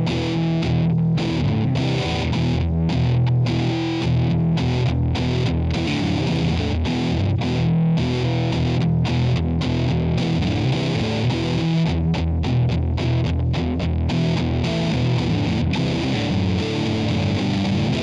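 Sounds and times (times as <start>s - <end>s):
rock music: 0.0s - 18.0s.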